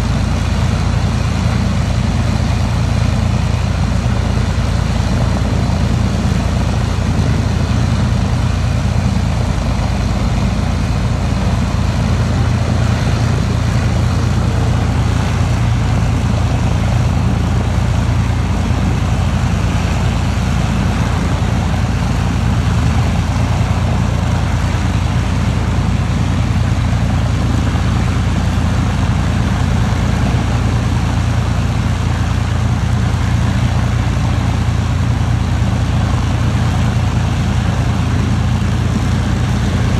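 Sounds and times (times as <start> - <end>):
piston aircraft engine rumbling: 0.0 - 39.9.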